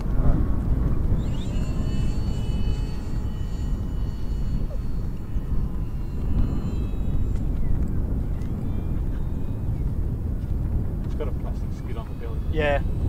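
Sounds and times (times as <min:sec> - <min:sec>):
wind rumble on microphone: 0:00.0 - 0:13.0
model plane motor whining: 0:00.5 - 0:13.0.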